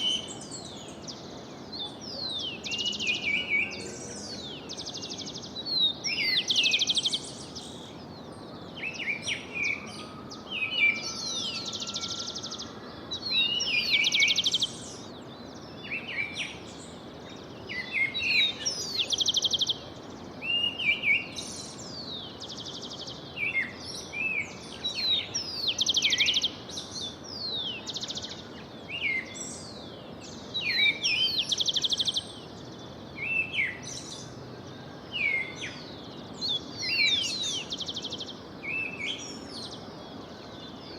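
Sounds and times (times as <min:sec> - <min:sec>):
low background hiss: 0:00.0 - 0:40.9
songbirds chirping and trilling: 0:00.0 - 0:40.9.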